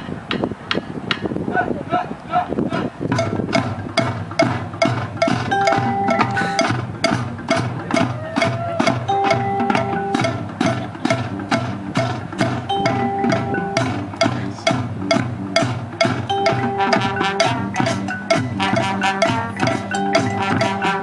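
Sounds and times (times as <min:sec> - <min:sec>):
wood block strikes: 0:00.3 - 0:01.3, 0:03.1 - 0:21.0
latin music with percussion: 0:02.8 - 0:21.0
mallet percussion: 0:03.1 - 0:21.0.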